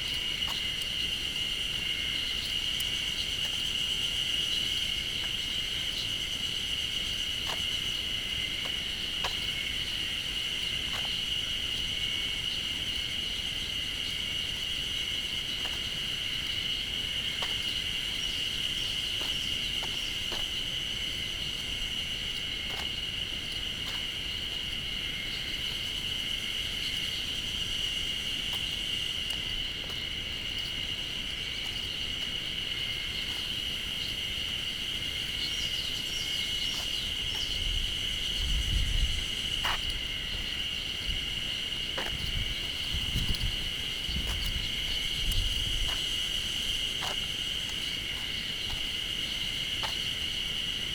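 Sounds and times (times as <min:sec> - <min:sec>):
insects chorus high drone: 0:00.0 - 0:50.9.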